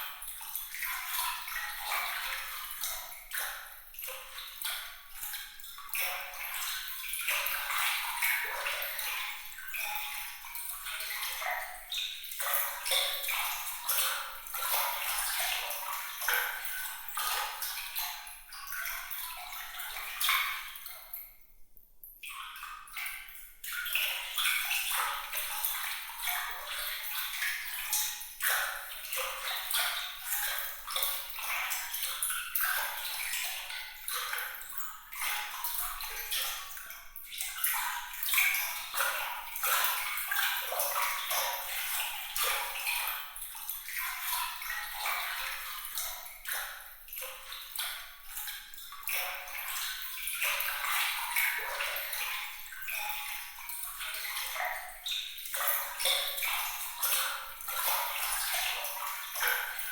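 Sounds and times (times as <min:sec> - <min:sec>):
water trickling and splashing: 0:00.0 - 0:21.5, 0:22.1 - 0:59.9.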